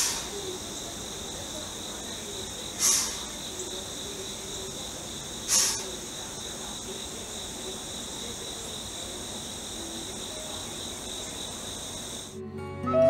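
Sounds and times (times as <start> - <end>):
insects shrilling: 0.0 - 12.4.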